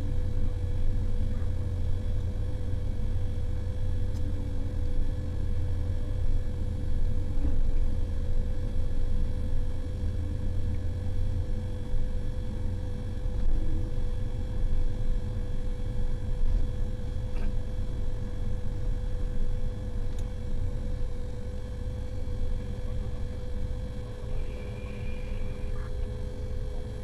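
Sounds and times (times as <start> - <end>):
diesel engine low drone: 0.0 - 27.0
steady engine whine: 0.0 - 27.0.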